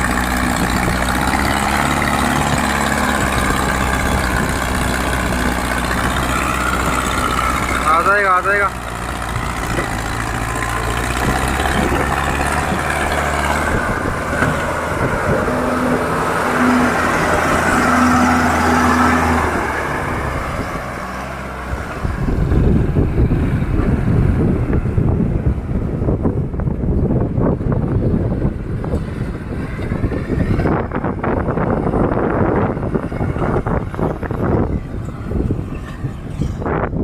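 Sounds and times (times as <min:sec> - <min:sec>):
diesel tractor engines under load: 0:00.0 - 0:37.0
wind buffeting microphone: 0:00.0 - 0:37.0.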